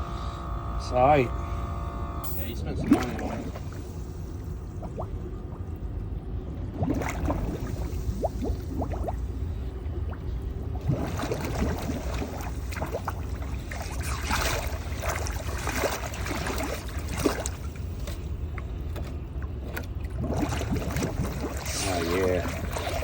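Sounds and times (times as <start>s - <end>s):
steady low rumble: 0.0s - 23.0s
water lapping against boat hull: 0.0s - 23.0s.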